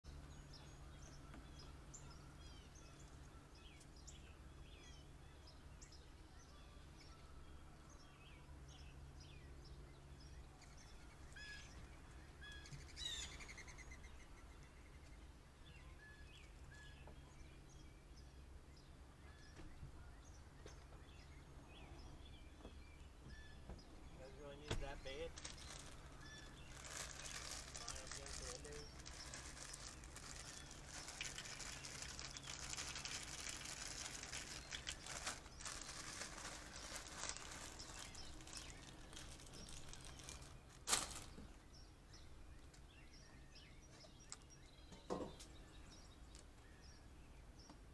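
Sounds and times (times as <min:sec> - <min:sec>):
low steady hum: 0:00.1 - 0:47.9
small birds chirping: 0:00.1 - 0:47.9.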